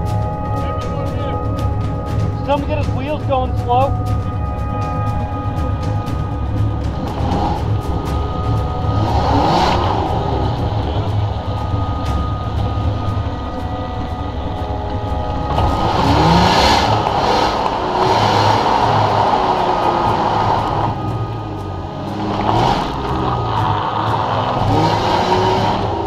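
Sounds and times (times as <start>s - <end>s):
engine revving under load: 0.0s - 26.0s
rushing noise: 0.0s - 26.0s.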